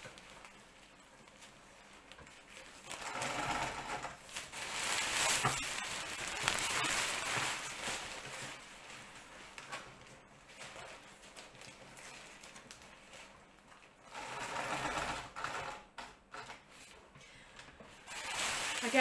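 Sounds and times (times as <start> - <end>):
fabric rustling: 0.0 - 15.0, 17.9 - 19.0.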